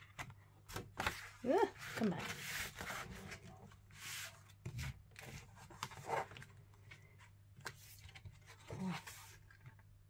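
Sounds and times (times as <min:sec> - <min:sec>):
paper pages rustling: 0:00.0 - 0:09.9.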